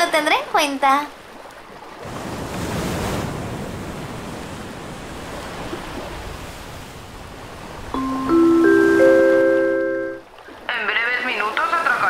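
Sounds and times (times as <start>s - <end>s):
ocean waves washing: 0.0s - 12.0s.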